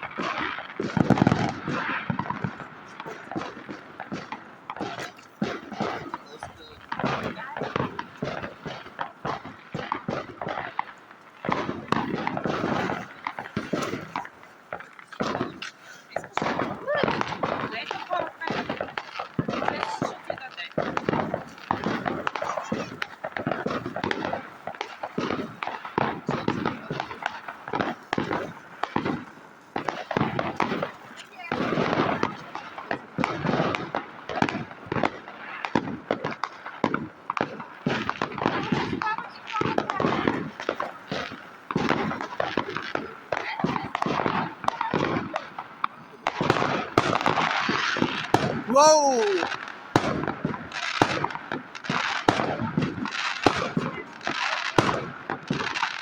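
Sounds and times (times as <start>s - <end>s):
firecrackers bangs and crackles: 0.0s - 56.0s.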